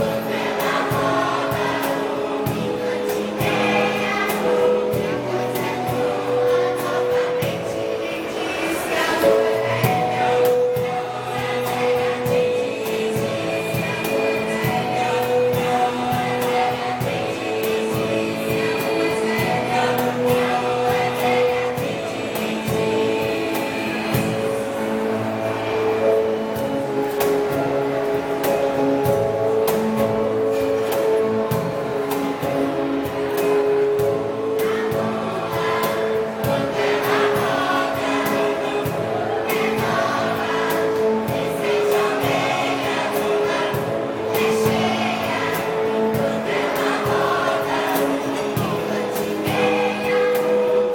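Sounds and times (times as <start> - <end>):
choir singing: 0.0 - 50.9
instrumental accompaniment: 0.0 - 50.9
steady rhythmic beat: 0.0 - 50.9.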